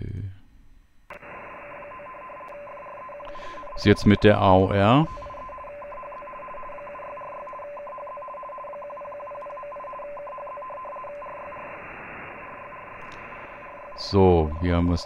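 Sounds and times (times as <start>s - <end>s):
receiver hiss: 1.0s - 15.0s
single steady tone: 1.1s - 15.0s
two alternating radio tones: 1.1s - 15.0s.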